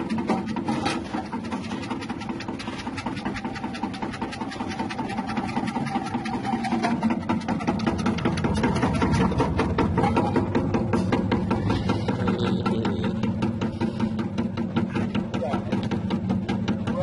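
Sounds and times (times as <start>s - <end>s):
slicing machine clatter: 0.0s - 17.0s.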